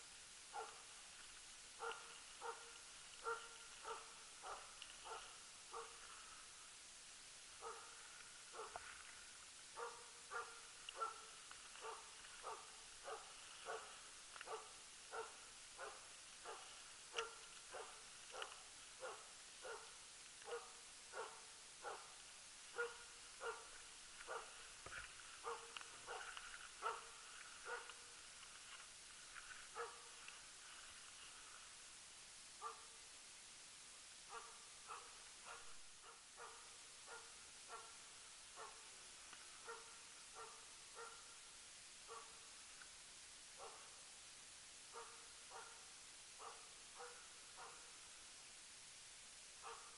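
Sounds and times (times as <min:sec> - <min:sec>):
faint rhythmic dog barking: 0:00.4 - 0:06.9, 0:07.5 - 0:09.0, 0:09.6 - 0:28.4, 0:29.7 - 0:31.2, 0:32.4 - 0:33.0, 0:34.2 - 0:42.6, 0:43.4 - 0:44.2, 0:44.8 - 0:48.2, 0:49.5 - 0:49.9.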